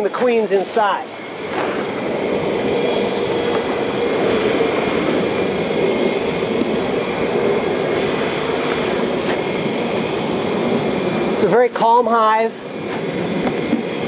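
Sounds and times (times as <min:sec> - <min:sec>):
bee swarm buzzing: 0:00.0 - 0:14.0.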